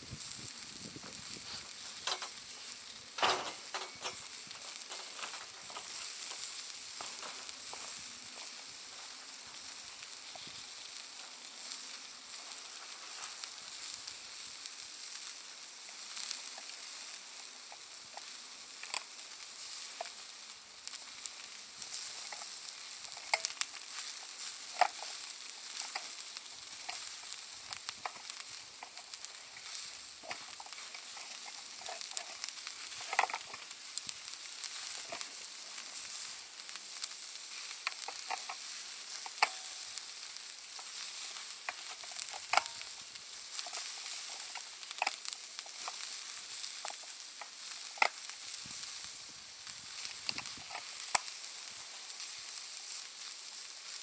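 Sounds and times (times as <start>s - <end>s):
charcoal fire crackling: 0.0s - 54.0s
charcoal popping: 0.0s - 54.0s
steady hiss: 0.0s - 54.0s.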